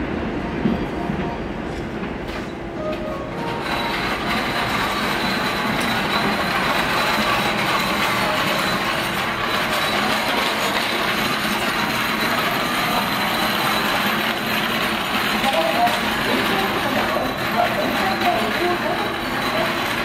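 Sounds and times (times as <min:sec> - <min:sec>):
train wheels rumbling on rail: 0:00.0 - 0:20.0
high wheel squeal: 0:02.4 - 0:20.0.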